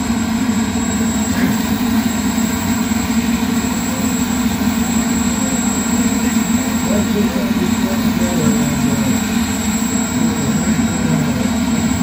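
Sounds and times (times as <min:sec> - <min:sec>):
model jet turbine engine whine: 0:00.0 - 0:12.0.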